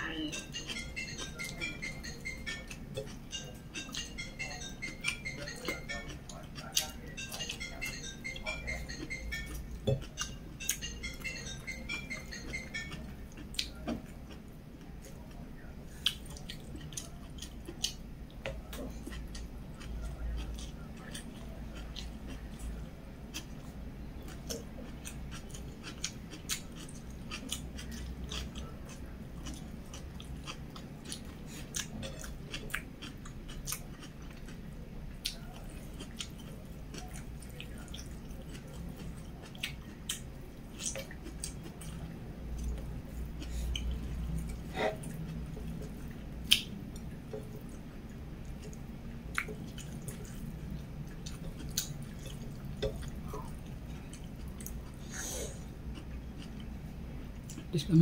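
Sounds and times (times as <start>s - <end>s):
close chewing and mouth sounds: 0.1s - 58.0s.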